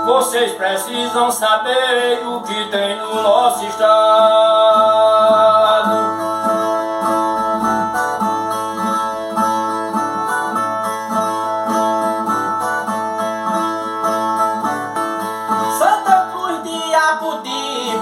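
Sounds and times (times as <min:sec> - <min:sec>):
ten-string viola strummed and plucked: 0:00.0 - 0:18.0.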